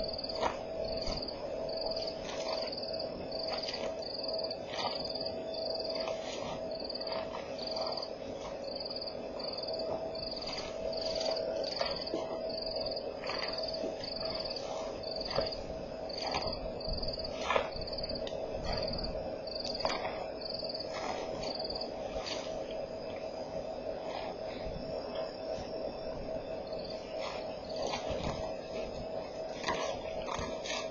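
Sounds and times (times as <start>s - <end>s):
insects chirping in trills: 0.0s - 30.9s
steady low drone: 0.0s - 30.9s.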